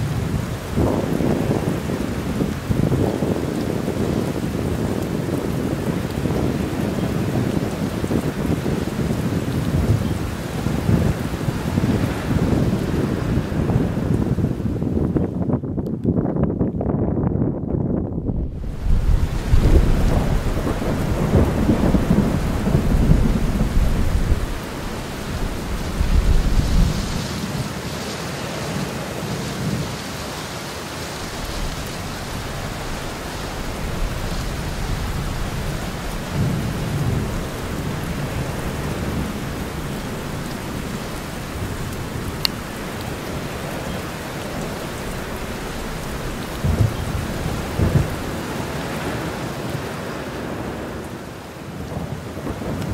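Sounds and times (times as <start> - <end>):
thunder rumbling: 0.0 - 28.0, 31.2 - 49.3
steady rain: 0.0 - 52.9.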